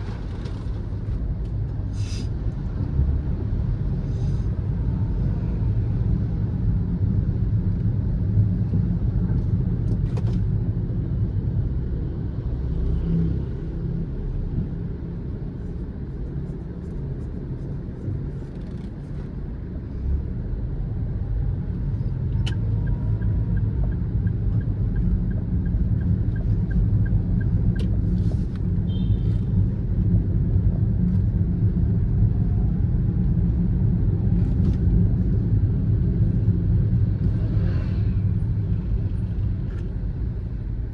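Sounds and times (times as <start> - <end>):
car engine rumble: 0.0 - 40.9
road noise: 0.0 - 40.9.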